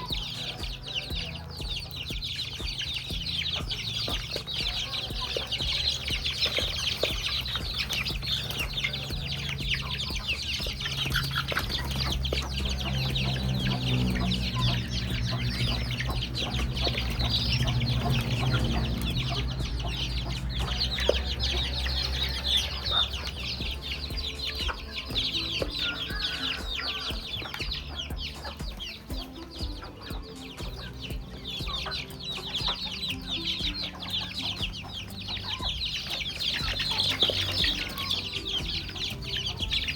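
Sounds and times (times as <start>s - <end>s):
chickens clucking: 0.0s - 39.9s
dense high chirping: 0.0s - 39.9s.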